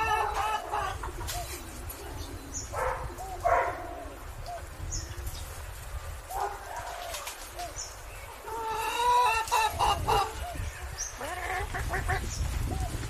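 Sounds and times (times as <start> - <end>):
chickens clucking: 0.0 - 4.7, 6.3 - 13.0
low wind rumble: 0.0 - 13.0.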